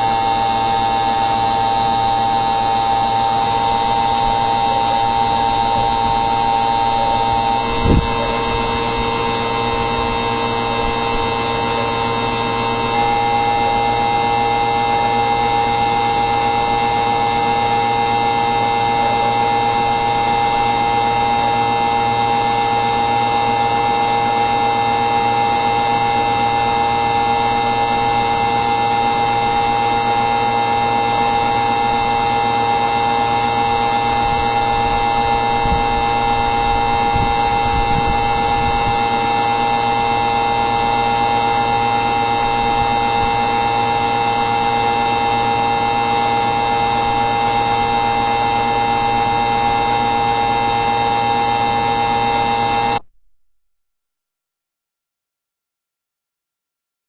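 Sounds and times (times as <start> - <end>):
machine whine: 0.0 - 53.0.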